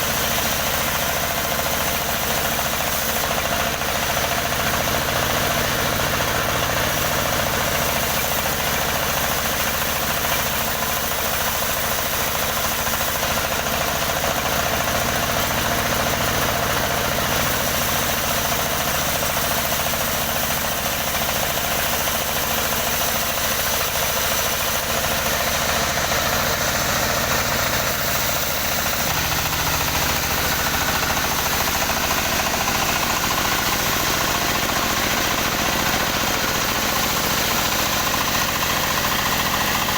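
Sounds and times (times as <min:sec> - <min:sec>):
motorised wood saw engine running: 0:00.0 - 0:39.9.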